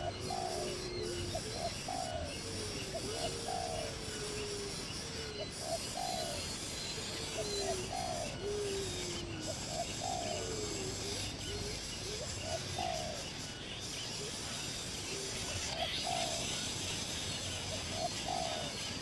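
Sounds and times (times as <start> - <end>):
dove cooing: 0.0 - 19.0
steady high hiss: 0.0 - 19.0.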